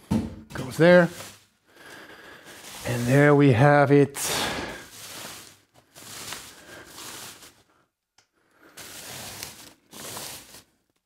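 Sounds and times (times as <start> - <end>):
plastic wrapping rustling: 0.6 - 7.9, 8.6 - 11.0.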